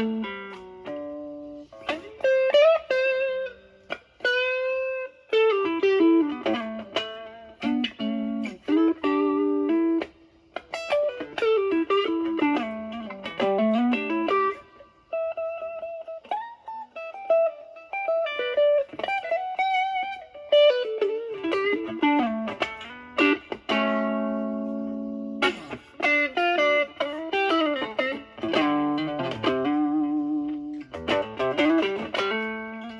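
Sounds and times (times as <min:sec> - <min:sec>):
distorted electric guitar lead: 0:00.0 - 0:32.9.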